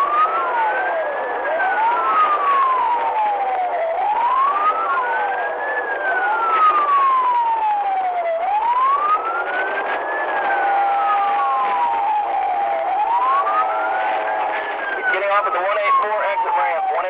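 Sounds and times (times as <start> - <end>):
car road noise: 0.0 - 17.0
faint second siren wailing: 0.0 - 17.0
police siren wailing: 0.0 - 17.0.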